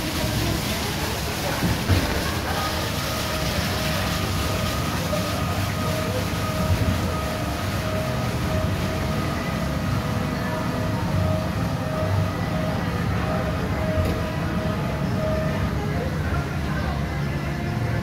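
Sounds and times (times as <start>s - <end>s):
faint steady whine: 0.0s - 18.0s
ride car rumble: 0.0s - 18.0s.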